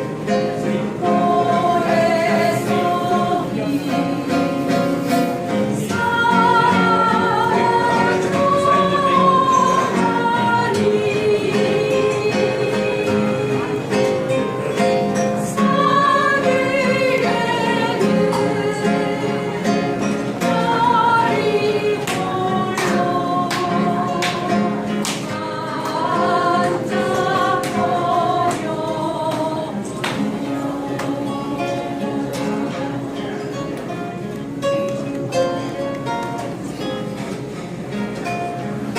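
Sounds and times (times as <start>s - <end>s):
people singing: 0.0s - 34.3s
acoustic guitar: 0.0s - 38.9s.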